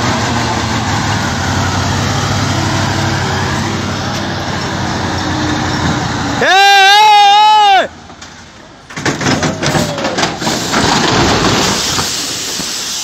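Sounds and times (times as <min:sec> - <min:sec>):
truck diesel engine labouring: 0:00.0 - 0:13.0.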